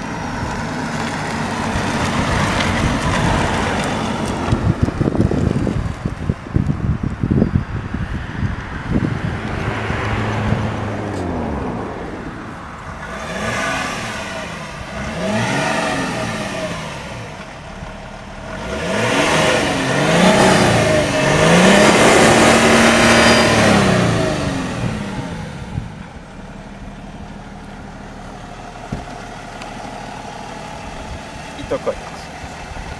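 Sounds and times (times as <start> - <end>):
diesel engine idling and revving: 0.0 - 32.9.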